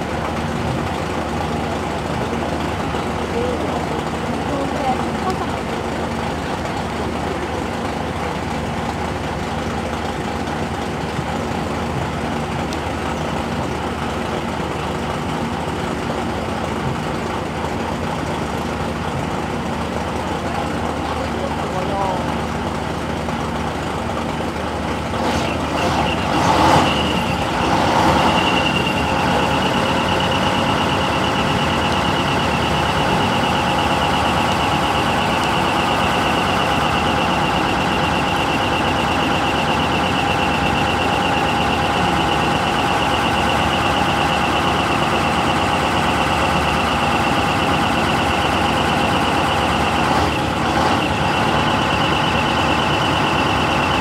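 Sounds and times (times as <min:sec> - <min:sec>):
generator running: 0:00.0 - 0:54.0
truck engine idling: 0:00.0 - 0:54.0.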